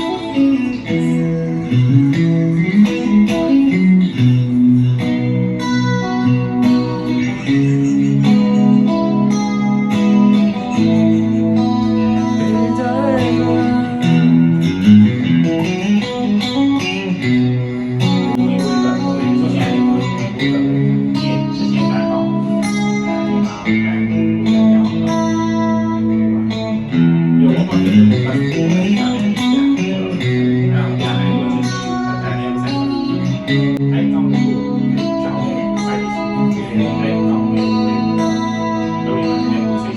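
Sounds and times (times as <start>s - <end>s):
electric guitar chords and notes: 0.0s - 39.9s.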